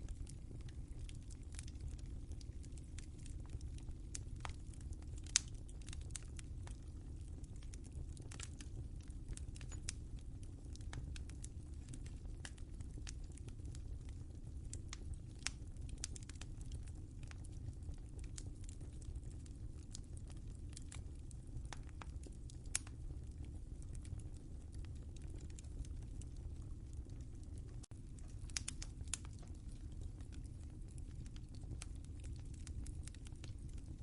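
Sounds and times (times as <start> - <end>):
low steady fire rumble: 0.0 - 34.0
wood fire crackling: 0.0 - 34.0.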